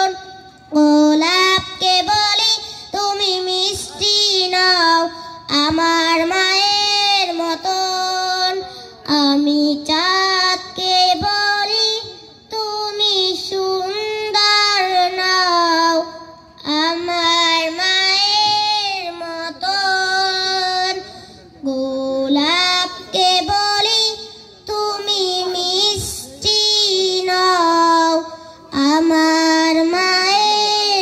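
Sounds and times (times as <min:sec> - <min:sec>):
girl singing into a microphone: 0:00.0 - 0:31.0.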